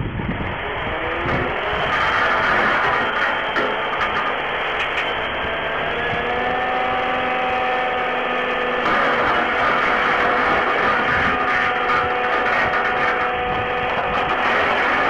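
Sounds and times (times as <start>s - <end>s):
rush of noise: 0.0s - 15.0s
steady whine: 0.0s - 15.0s
truck engine reversing: 0.0s - 15.0s.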